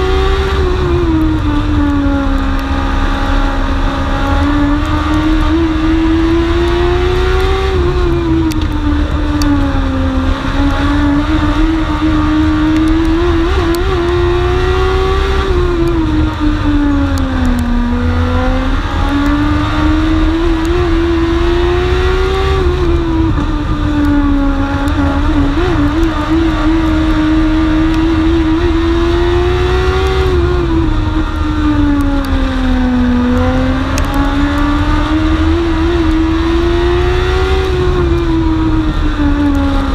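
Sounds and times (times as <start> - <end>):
race car engine revving: 0.0 - 39.9
road and wind noise rumble: 0.0 - 39.9.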